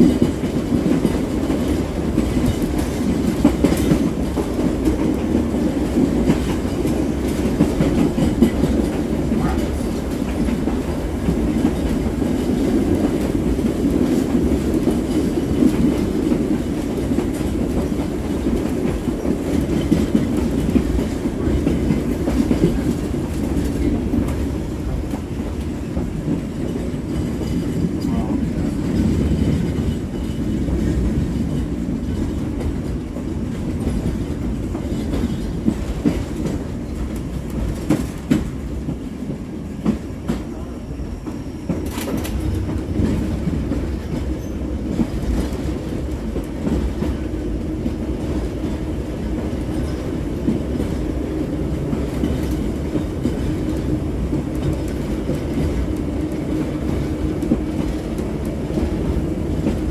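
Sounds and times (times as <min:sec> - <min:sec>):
wheels clacking over rail joints: 0:00.0 - 0:40.5, 0:41.2 - 0:59.9
trolley car rumble: 0:00.0 - 0:59.9.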